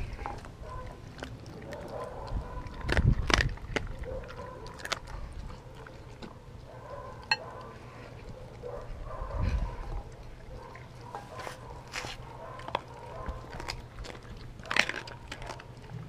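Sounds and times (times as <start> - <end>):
dog chewing meat: 0.0 - 16.0.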